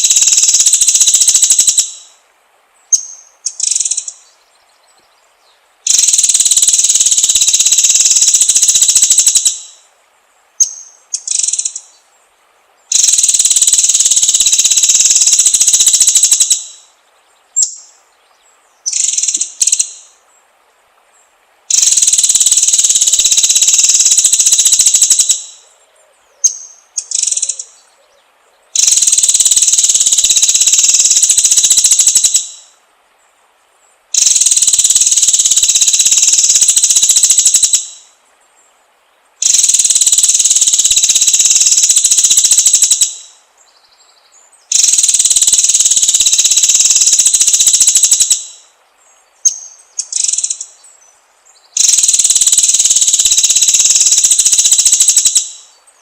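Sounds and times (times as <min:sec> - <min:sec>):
high-pitched buzzing bird trills: 0:00.0 - 0:02.2, 0:02.9 - 0:04.4, 0:05.8 - 0:09.9, 0:10.6 - 0:12.0, 0:12.9 - 0:17.0, 0:18.8 - 0:20.2, 0:21.7 - 0:25.8, 0:26.4 - 0:27.9, 0:28.7 - 0:32.8, 0:34.1 - 0:38.2, 0:39.4 - 0:56.0.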